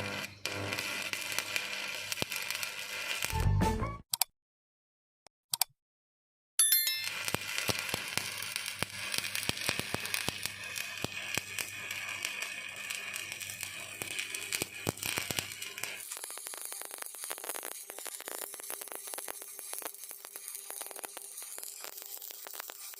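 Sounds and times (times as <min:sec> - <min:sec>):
welding arc crackling: 0:00.0 - 0:03.5, 0:07.1 - 0:22.9.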